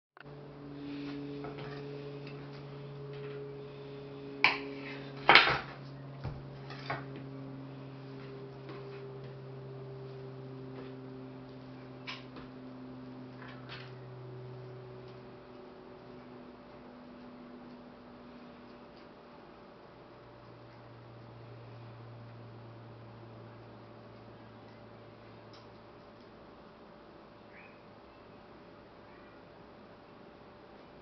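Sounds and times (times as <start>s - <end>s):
steady low hum: 0.2s - 31.0s.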